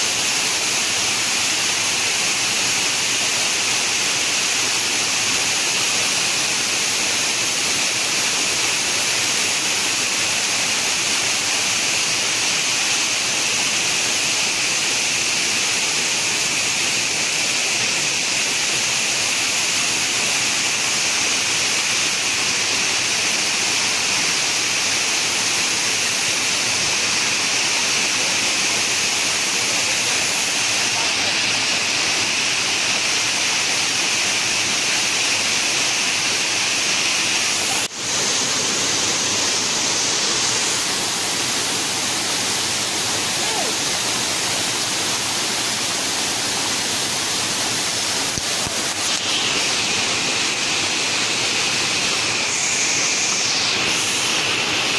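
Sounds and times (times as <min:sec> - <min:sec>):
waterfall roar: 0:00.0 - 0:54.9.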